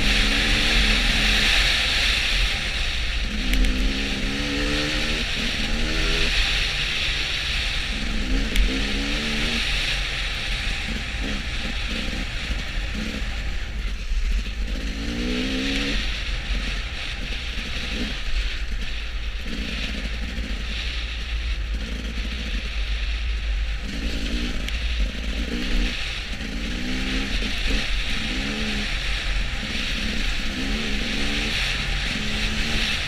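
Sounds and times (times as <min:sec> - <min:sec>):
road rumble: 0:00.0 - 0:33.0
vehicle engine: 0:00.0 - 0:33.0.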